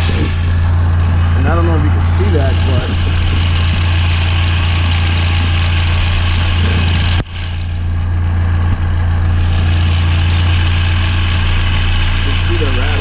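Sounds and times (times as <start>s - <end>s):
car engine idling: 0.0s - 13.0s
rattling belt tensioner: 0.0s - 13.0s.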